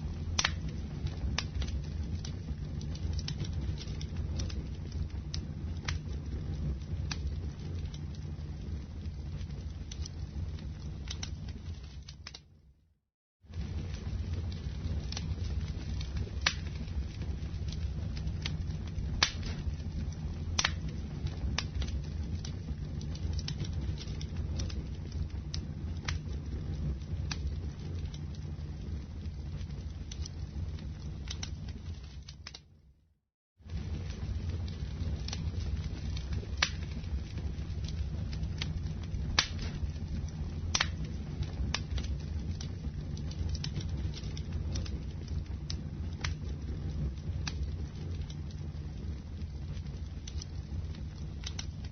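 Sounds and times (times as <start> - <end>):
steady low rumble: 0.0 - 12.0, 13.5 - 32.2, 33.7 - 51.9
wood fire burning: 0.0 - 51.9
sharp crackling pops: 0.1 - 12.6, 13.5 - 32.8, 33.7 - 51.9.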